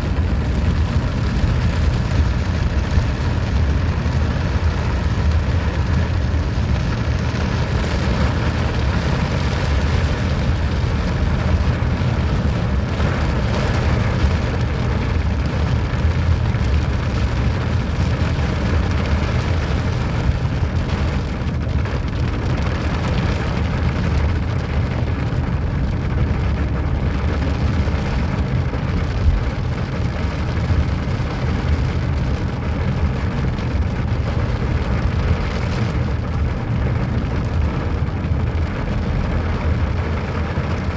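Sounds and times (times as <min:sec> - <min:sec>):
constant low rumble: 0:00.0 - 0:40.9
steady rain falling: 0:00.0 - 0:40.9.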